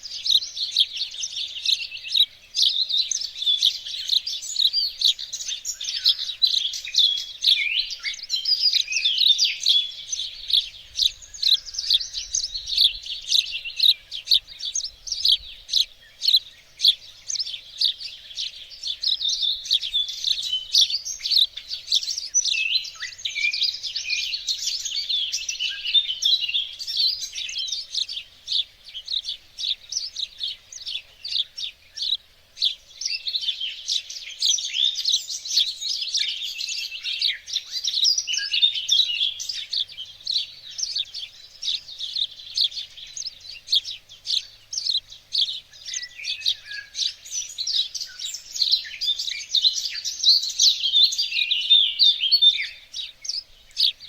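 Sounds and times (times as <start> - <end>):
songbirds chirping in chorus: 0.0 - 54.0.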